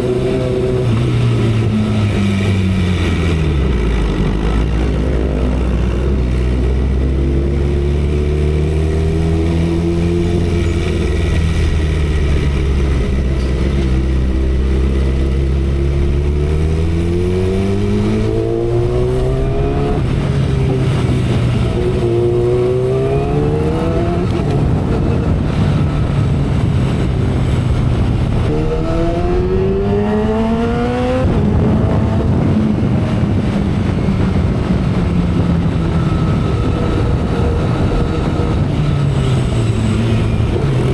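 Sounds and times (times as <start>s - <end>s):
motorcycle engine accelerating: 0.0s - 40.9s
wind on microphone: 0.0s - 40.9s.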